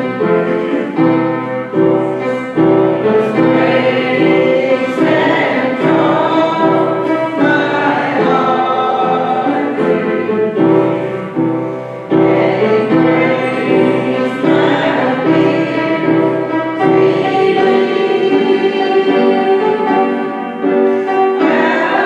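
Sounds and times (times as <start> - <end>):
congregation singing a hymn: 0.0 - 22.0
piano accompaniment: 0.0 - 22.0.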